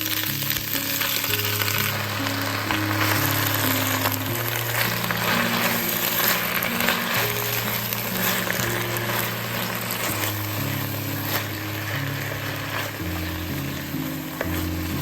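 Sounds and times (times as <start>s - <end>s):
food sizzling in a pan: 0.0s - 15.0s
soft music of held chords: 0.0s - 15.0s.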